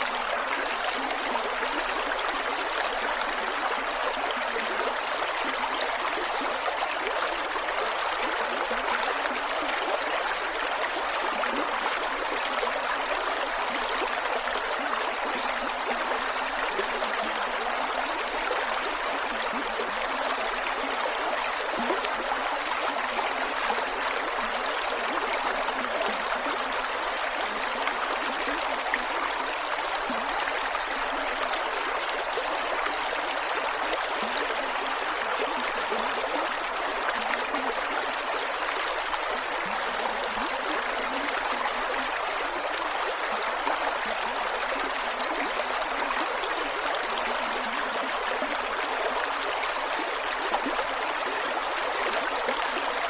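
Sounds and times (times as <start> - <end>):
creek water flowing over rocks: 0.0 - 53.0.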